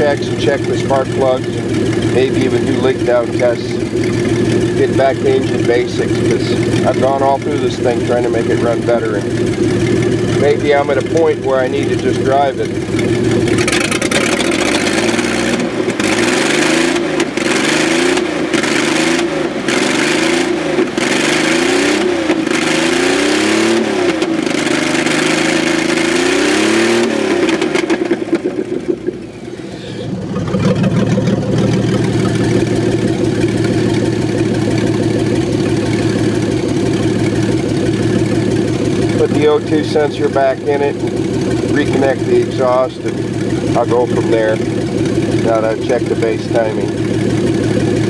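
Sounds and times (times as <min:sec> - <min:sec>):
van engine idling: 0:00.0 - 0:48.0
van engine revving: 0:00.0 - 0:48.0.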